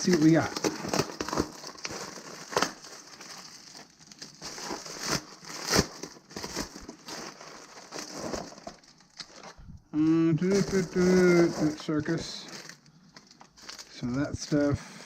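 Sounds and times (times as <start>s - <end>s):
packaging crinkling and rustling: 0.0s - 14.8s.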